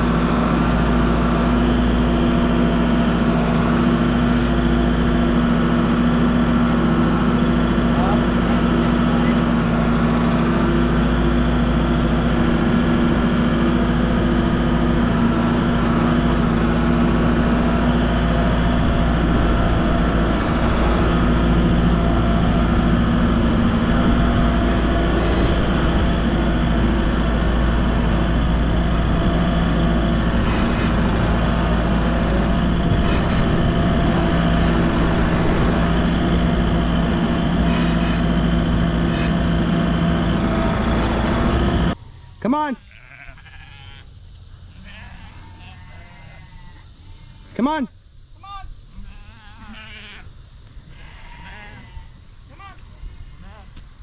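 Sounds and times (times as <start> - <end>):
vehicle engine running: 0.0 - 45.3.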